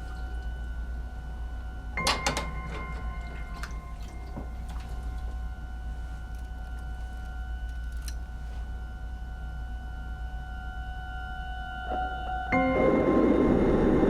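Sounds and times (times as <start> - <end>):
steady low hum: 0.0 - 14.0
thin high whine: 0.0 - 14.0.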